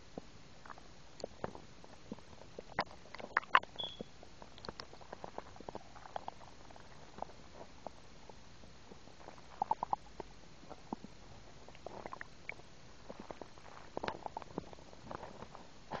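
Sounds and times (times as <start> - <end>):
stomach gurgling: 0.2 - 16.0.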